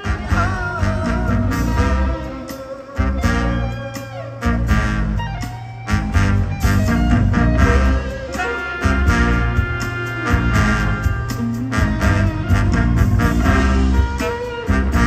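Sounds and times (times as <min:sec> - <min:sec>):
heavy bass line: 0:00.0 - 0:15.0
jazz band playing: 0:00.0 - 0:15.0.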